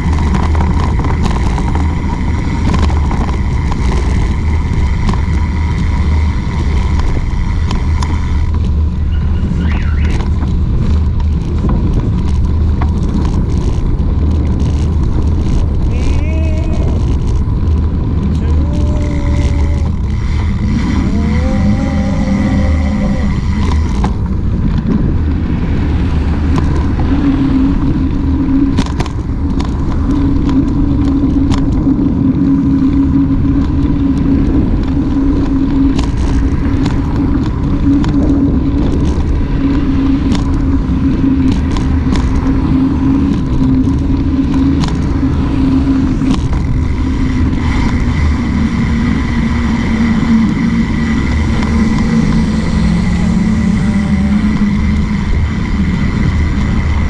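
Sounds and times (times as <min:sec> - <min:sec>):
bike clicks and knocks: 0:00.0 - 0:25.6, 0:26.4 - 0:49.6
low hum: 0:00.0 - 0:57.0
tyre and road rumble: 0:00.0 - 0:57.0
wind on microphone: 0:00.0 - 0:57.0.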